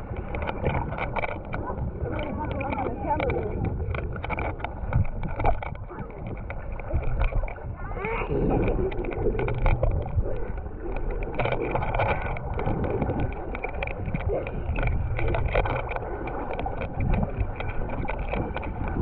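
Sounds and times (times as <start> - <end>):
water splashing from swimming: 0.0 - 19.0
wind against the microphone: 0.0 - 19.0.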